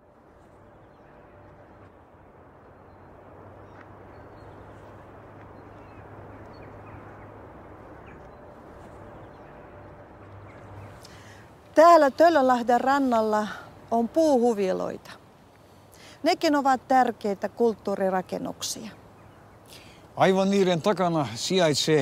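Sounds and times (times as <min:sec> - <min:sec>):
background noise with low hum: 0:00.0 - 0:22.0.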